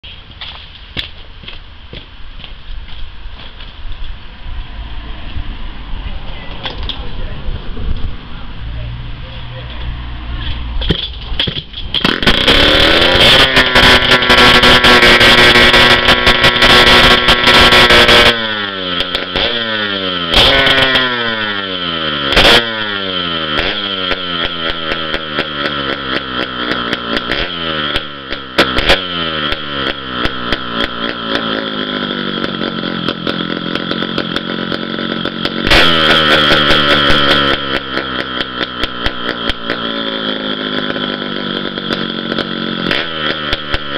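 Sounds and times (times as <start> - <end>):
two-stroke engine revving: 4.4 - 43.9.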